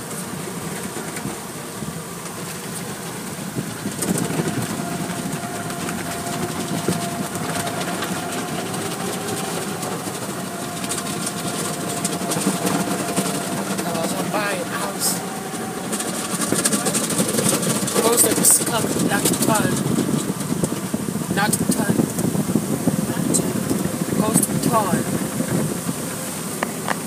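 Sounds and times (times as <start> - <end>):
car wash machinery running: 0.0 - 27.0
steady whine: 0.0 - 27.0.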